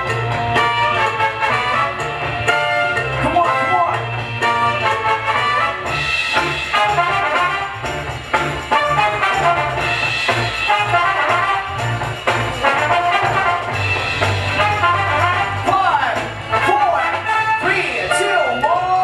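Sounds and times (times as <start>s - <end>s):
drum and bass music with brass: 0.0s - 19.0s.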